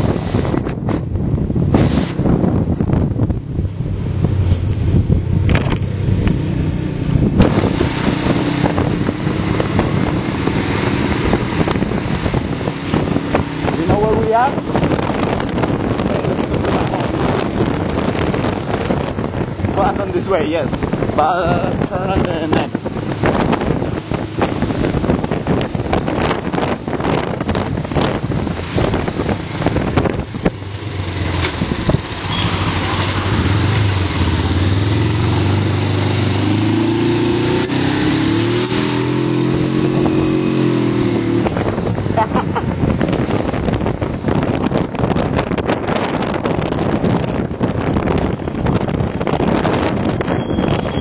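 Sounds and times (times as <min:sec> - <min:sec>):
motorcycle engine revving: 0:00.0 - 0:51.0
wind buffeting microphone: 0:00.0 - 0:51.0.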